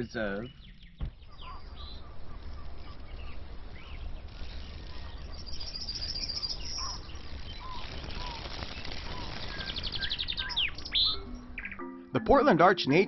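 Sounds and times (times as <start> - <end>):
high rapid bird trill: 0.0 - 12.1
birds chirping: 0.0 - 13.0.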